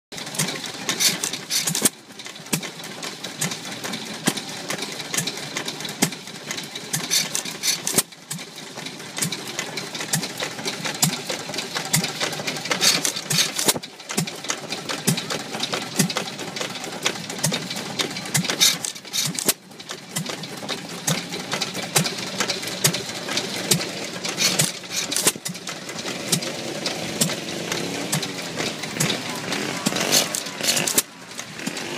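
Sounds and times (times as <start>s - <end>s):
engine firing bursts: 0.2s - 31.9s
engine valve gear clattering: 0.2s - 31.9s.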